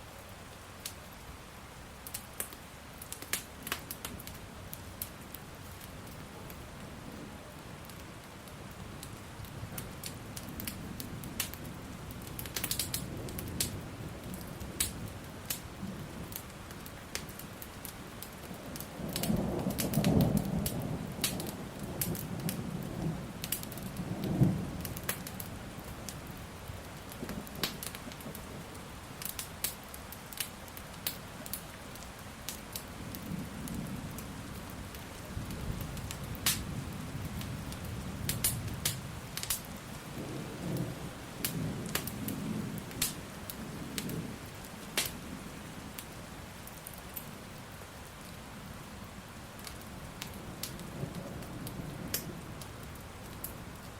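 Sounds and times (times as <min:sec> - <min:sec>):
wood fire crackling: 0:00.0 - 0:01.3, 0:02.0 - 0:53.9
steady rain: 0:00.0 - 0:53.9.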